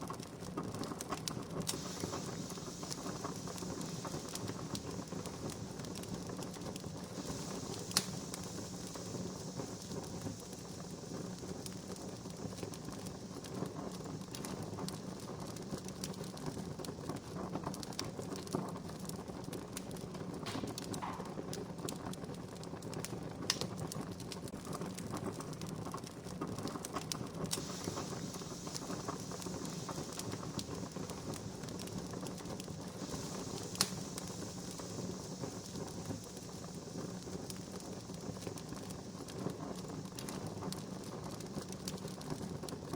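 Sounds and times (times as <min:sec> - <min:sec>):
fire crackles and pops: 0:00.0 - 0:42.9
wood fire burning: 0:00.0 - 0:42.9.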